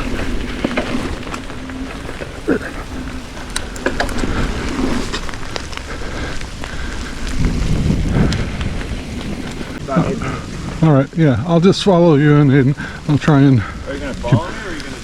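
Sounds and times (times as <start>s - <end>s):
low rumble: 0.0s - 15.0s
steady rain: 0.0s - 15.0s.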